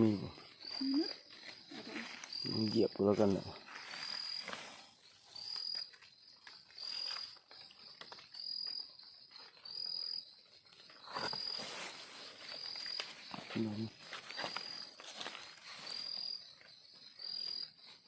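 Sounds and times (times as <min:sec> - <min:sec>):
insect trilling: 0:00.0 - 0:18.0.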